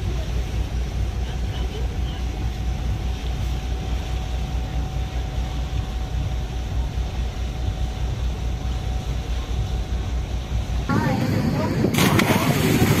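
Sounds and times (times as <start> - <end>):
boat engine rumbling: 0.0 - 13.0
faint steady hum: 0.0 - 13.0
rush of boat wake: 0.0 - 13.0.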